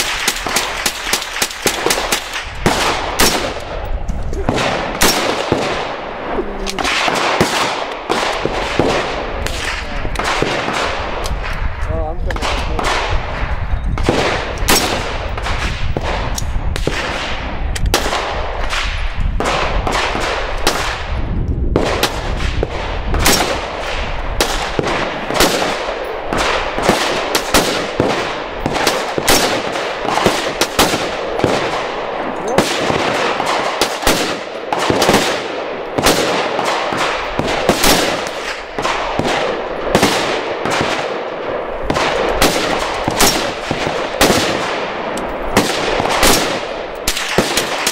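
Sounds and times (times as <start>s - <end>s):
rifle gunshots: 0.0s - 47.9s.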